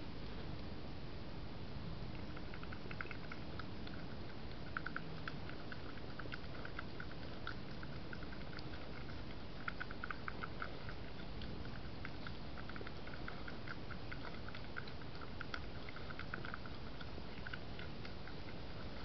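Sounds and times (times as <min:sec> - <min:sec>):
badger chewing and crunching: 0:02.1 - 0:19.0.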